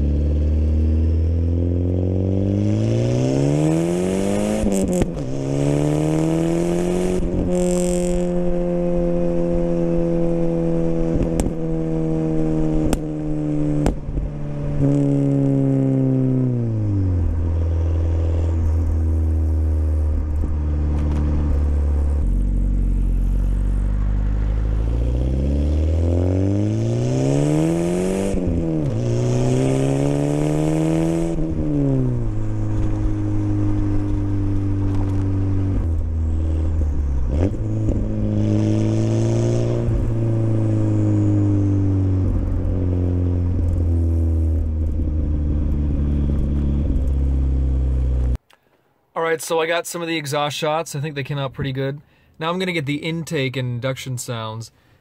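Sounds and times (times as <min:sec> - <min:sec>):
car engine revving: 0:00.0 - 0:48.4.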